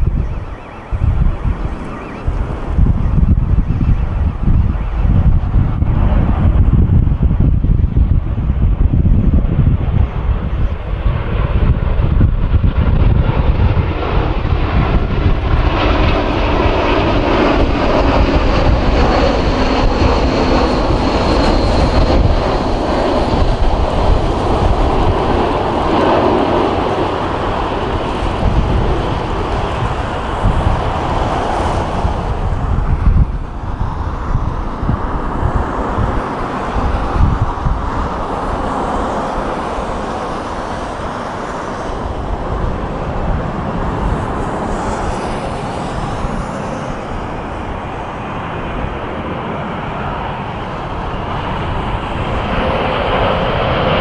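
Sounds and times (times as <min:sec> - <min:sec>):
airliner jet engine rumble: 0:00.0 - 0:54.0.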